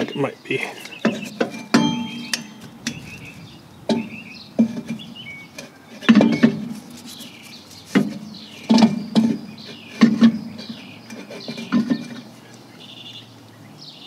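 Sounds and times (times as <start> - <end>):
brake drum clunking and scraping: 0.0 - 12.5.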